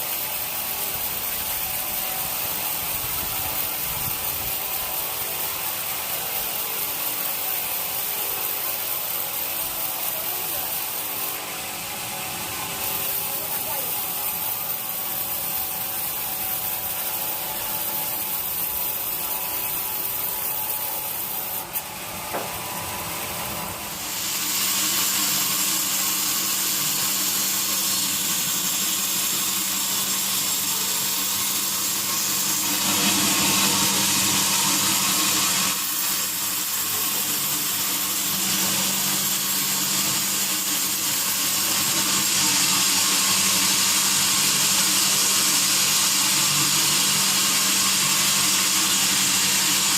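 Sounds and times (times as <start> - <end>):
saw grinding through log: 0.0 - 49.9.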